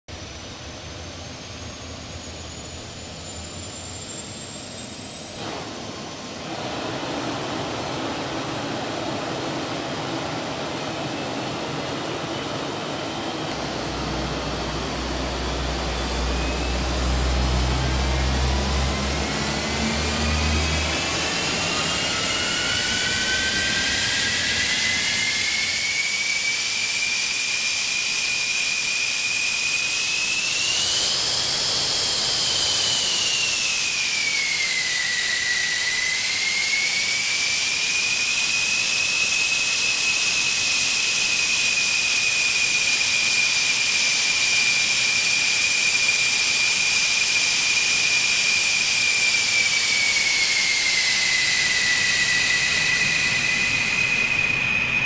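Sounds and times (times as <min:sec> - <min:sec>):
jet engine whine: 0:00.1 - 0:55.0.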